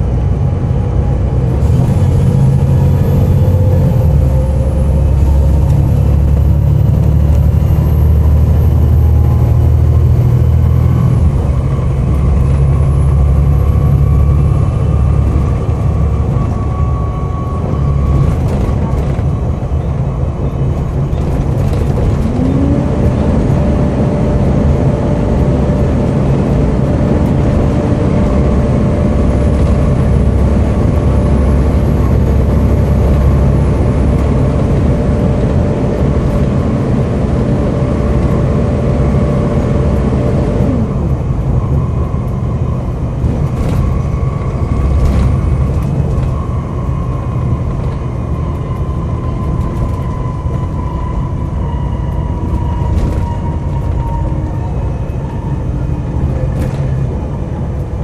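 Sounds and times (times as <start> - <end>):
bus engine running: 0.0 - 58.0
road rumble: 0.0 - 58.0.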